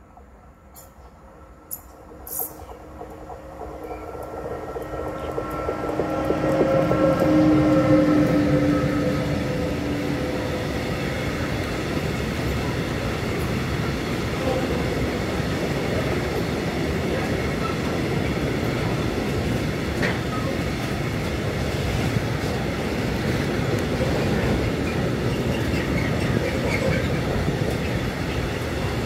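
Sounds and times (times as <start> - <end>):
electric locomotive humming whine: 0.0 - 29.0
train wheels rumbling on rail: 0.0 - 29.0.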